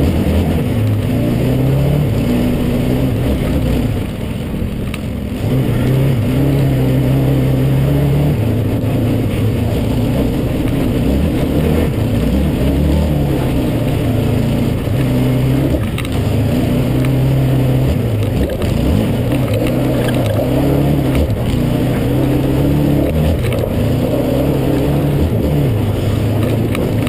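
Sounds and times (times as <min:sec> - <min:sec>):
atv engine running hard: 0:00.0 - 0:27.0.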